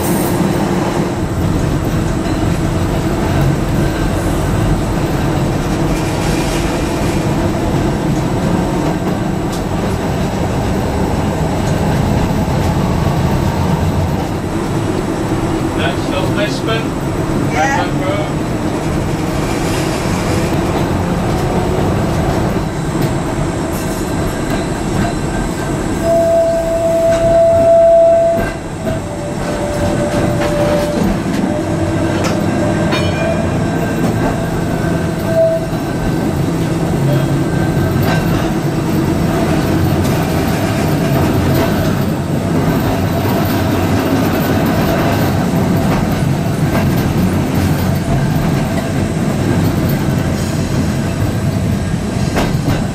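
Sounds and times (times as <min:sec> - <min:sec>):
tram motors and wheels rumbling: 0:00.0 - 0:52.9.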